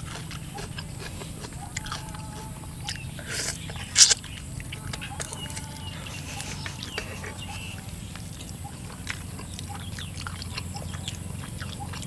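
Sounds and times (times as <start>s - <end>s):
people chewing and lip smacking: 0.0s - 12.0s
steady low hum: 0.0s - 12.0s.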